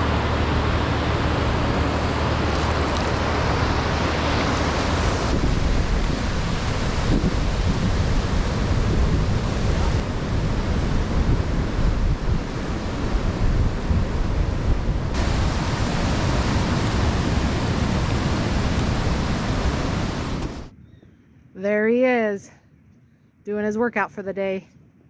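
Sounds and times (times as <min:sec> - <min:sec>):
wind buffeting microphone: 0:00.0 - 0:21.6.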